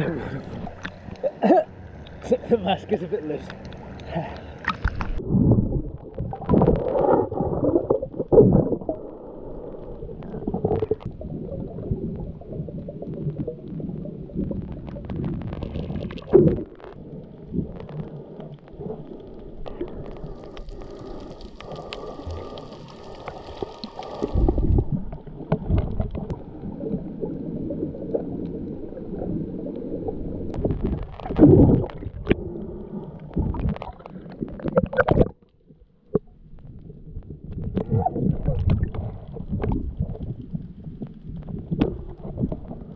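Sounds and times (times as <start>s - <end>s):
underwater water sloshing: 0.0s - 42.9s.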